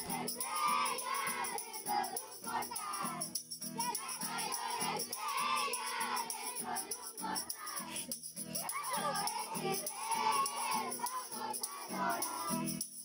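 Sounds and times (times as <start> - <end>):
children singing: 0.0 - 12.8
strummed acoustic guitar: 0.0 - 12.9.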